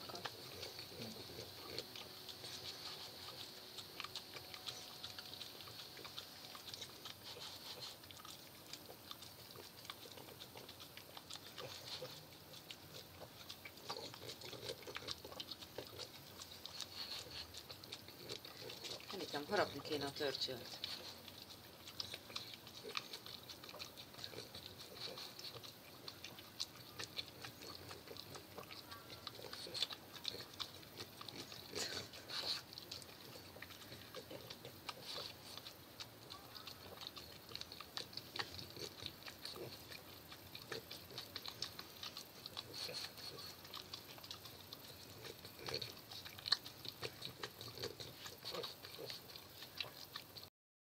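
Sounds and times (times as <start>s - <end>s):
dog licking and smacking: 0.0s - 50.5s.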